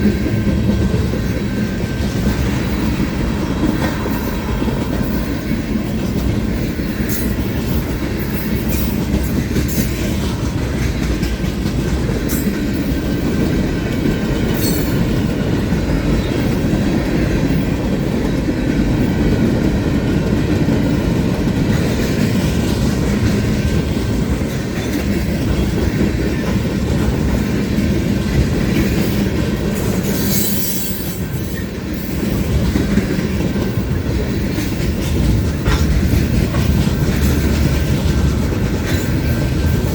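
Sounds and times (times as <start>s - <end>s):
freight train rolling past: 0.0s - 39.9s
train clanks: 0.0s - 39.9s
wheels clacking over rail joints: 0.0s - 39.9s.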